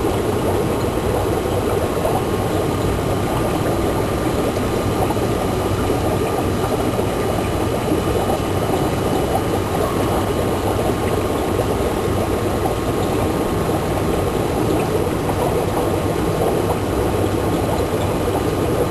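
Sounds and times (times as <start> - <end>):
aquarium filter bubbling: 0.0 - 18.9
faint steady hum: 0.0 - 18.9.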